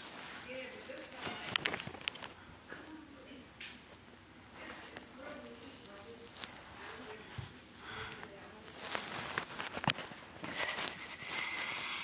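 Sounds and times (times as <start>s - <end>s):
fabric rubbing and rustling: 0.0s - 3.2s, 3.8s - 12.0s.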